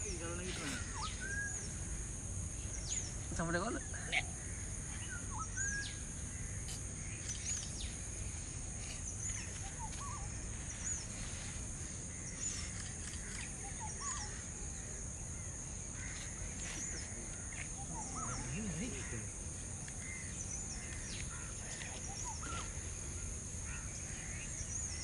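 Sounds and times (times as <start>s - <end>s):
bird calls: 0.0s - 25.0s.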